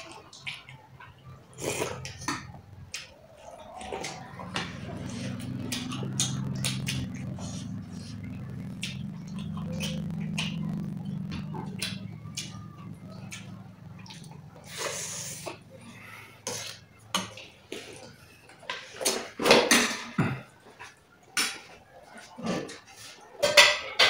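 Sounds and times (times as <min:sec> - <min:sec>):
chewing: 0:00.0 - 0:19.6.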